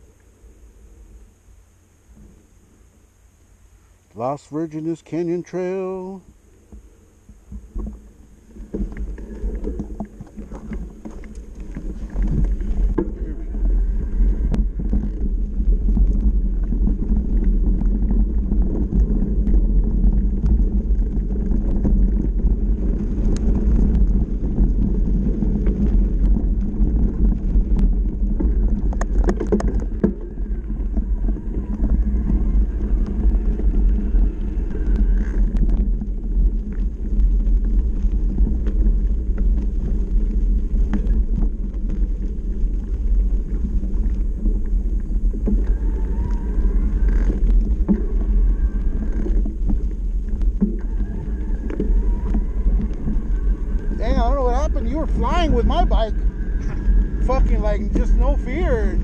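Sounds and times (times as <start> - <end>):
bike tyres rolling on dirt: 0.0 - 59.0
wind rumbling on microphone: 0.0 - 59.0.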